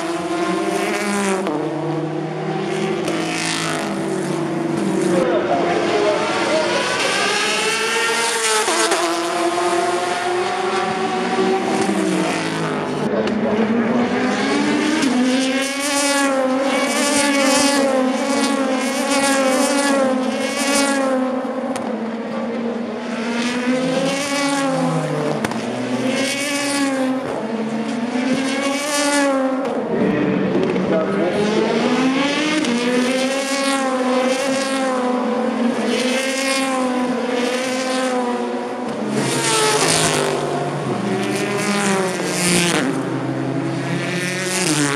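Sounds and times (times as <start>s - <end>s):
race car engines accelerating: 0.0s - 44.9s.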